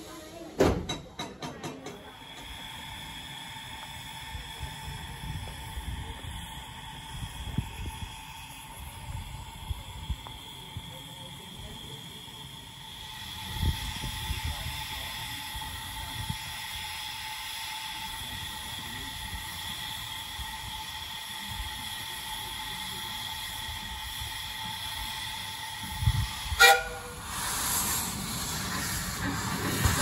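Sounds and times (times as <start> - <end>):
steam hissing: 0.0 - 30.0.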